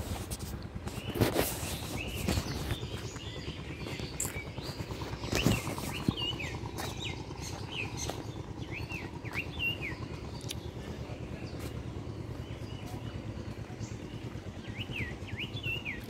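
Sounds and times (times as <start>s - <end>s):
steady low rumble: 0.0s - 16.0s
small birds chirping: 0.1s - 16.0s.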